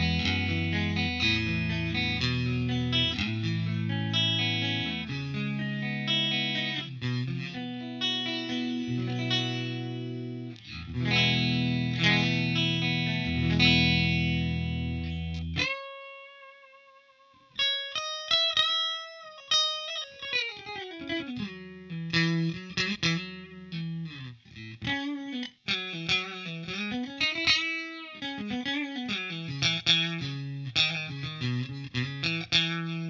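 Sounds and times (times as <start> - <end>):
clean electric guitar solo: 0.0 - 33.0.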